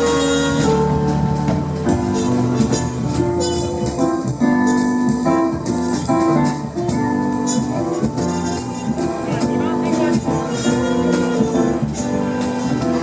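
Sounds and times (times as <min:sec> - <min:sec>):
jazz band playing: 0:00.0 - 0:13.0
keyboard chords: 0:00.0 - 0:13.0.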